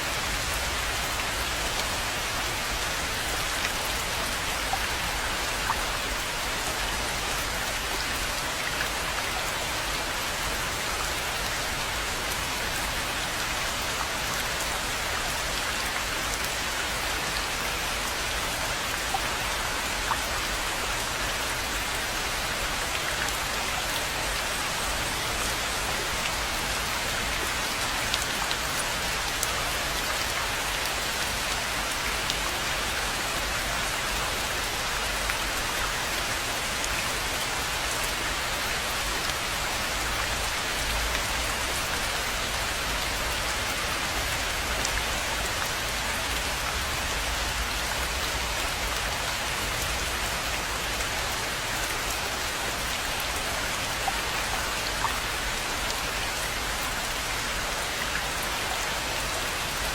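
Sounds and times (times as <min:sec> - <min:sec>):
rain hissing on pond: 0:00.0 - 0:59.9.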